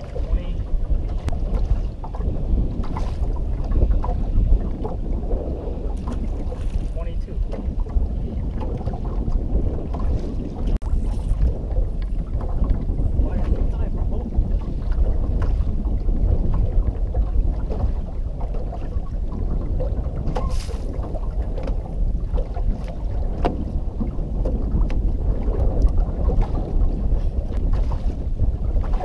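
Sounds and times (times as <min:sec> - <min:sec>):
water lapping against boat hull: 0:00.0 - 0:29.0
wind buffeting microphone: 0:00.0 - 0:29.0.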